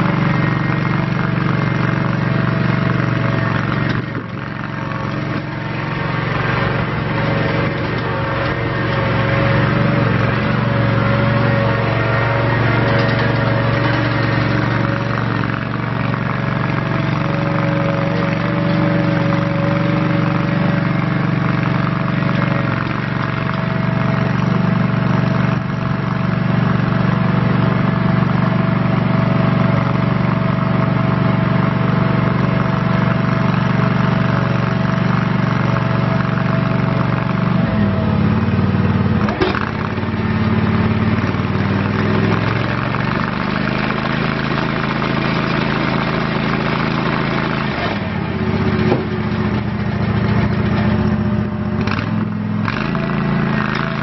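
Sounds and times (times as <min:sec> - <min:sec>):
stump grinder engine running: 0:00.0 - 0:54.0.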